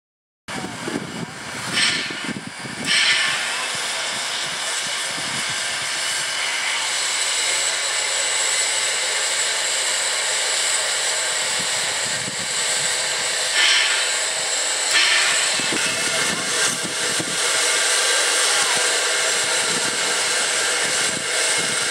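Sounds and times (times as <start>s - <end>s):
steam locomotive working slowly: 0.5s - 21.9s
steam hissing: 0.6s - 21.9s.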